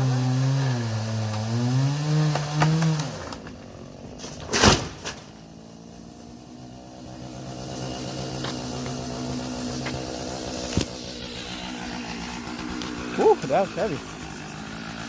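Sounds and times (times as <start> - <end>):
chainsaw engine running: 0.0 - 4.3, 5.4 - 15.0.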